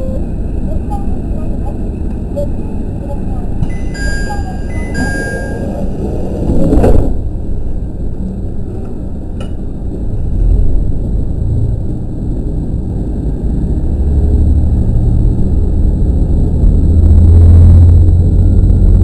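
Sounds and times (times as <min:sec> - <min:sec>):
diesel railcar engine rumbling: 0:00.0 - 0:19.0.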